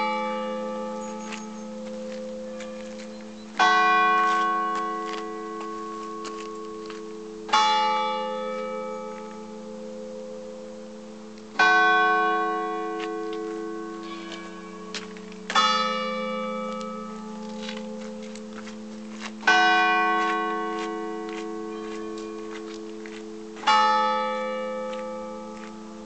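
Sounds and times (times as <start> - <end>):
large bell tolling: 0.0 - 26.0.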